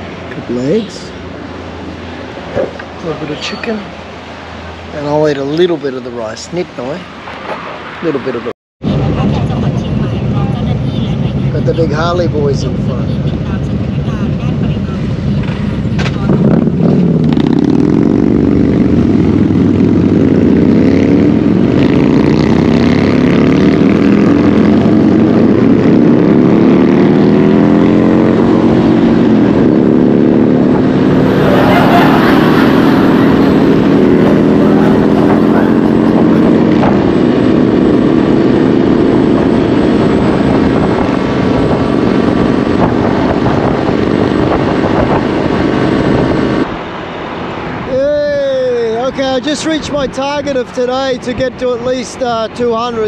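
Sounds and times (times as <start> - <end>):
steady rush of noise: 0.0 - 53.0
motorcycle engines running: 8.9 - 53.0.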